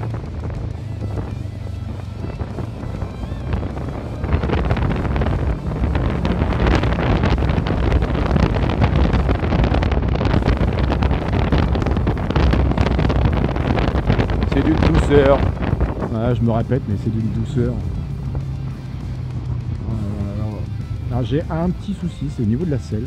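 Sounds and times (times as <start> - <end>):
motorcycle engine: 0.0 - 22.9
road noise: 0.0 - 23.0
wind buffeting microphone: 0.0 - 23.0.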